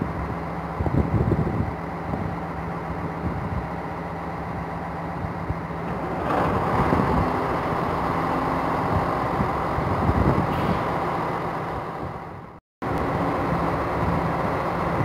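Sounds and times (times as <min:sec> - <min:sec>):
diesel railcar engines idling: 0:00.0 - 0:15.0.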